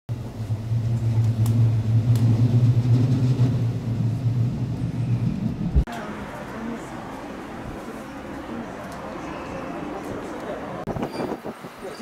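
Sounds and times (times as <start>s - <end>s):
train hum and rumble: 0.1s - 12.0s.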